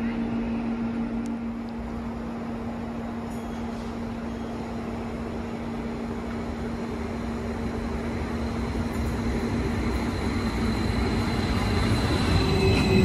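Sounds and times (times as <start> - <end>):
electric train approaching: 0.0 - 13.0.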